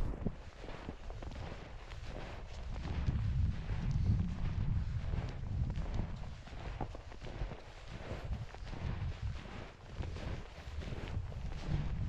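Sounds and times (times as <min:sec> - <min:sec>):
footsteps in snow: 0:00.0 - 0:12.0
wind rumbling on microphone: 0:00.0 - 0:12.0.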